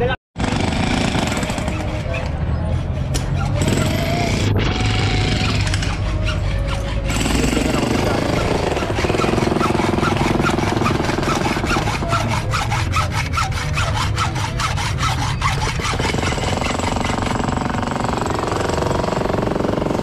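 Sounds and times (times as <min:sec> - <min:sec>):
hacksaw cutting steel bar: 0:00.8 - 0:19.2.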